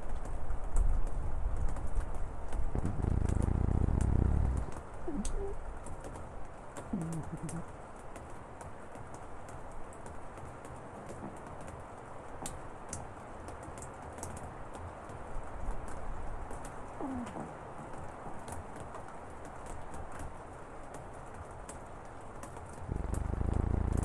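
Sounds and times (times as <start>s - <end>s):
sharp ticks of raindrops: 0.0s - 24.0s
steady rain shower: 0.0s - 24.0s.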